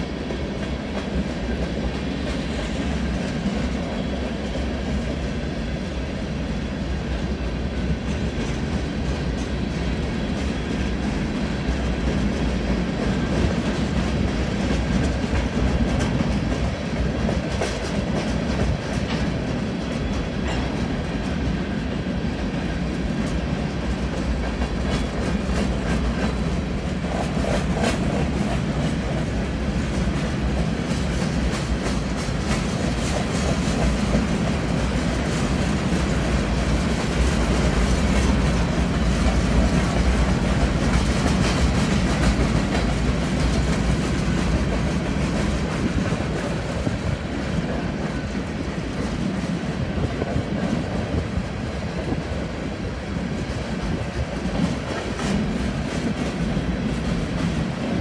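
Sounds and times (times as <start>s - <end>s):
steel wheels on rail: 0.0s - 58.0s
wheels clacking over rail joints: 7.6s - 58.0s.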